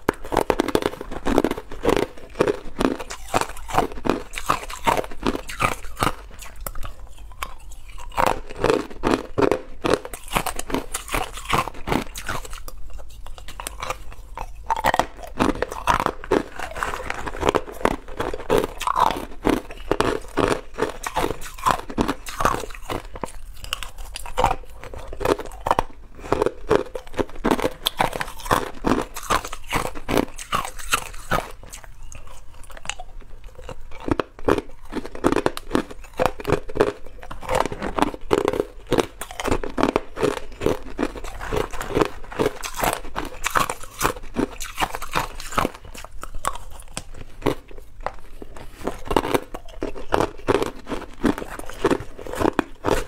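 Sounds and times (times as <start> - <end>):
person crunching ice: 0.0 - 53.0.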